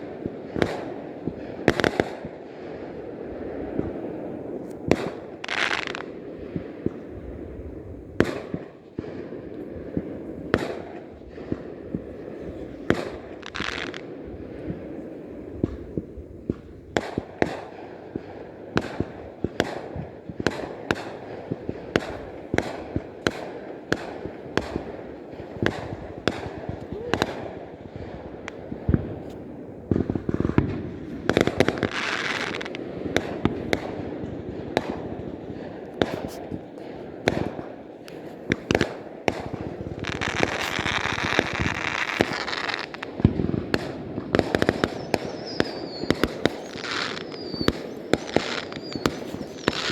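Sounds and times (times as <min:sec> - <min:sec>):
fireworks banging: 0:00.0 - 0:49.9
crackling hissing firework bursts: 0:04.8 - 0:07.3, 0:08.2 - 0:36.6, 0:37.2 - 0:49.9.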